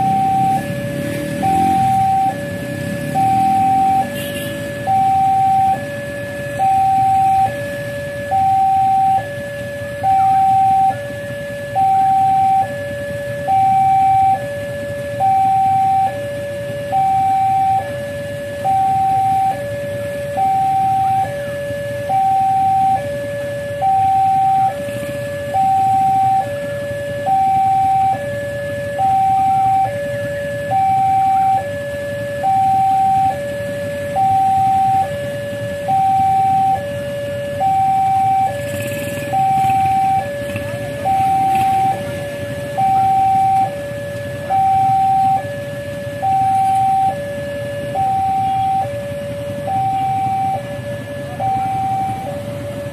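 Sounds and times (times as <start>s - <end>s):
level crossing alarm: 0.0s - 52.9s.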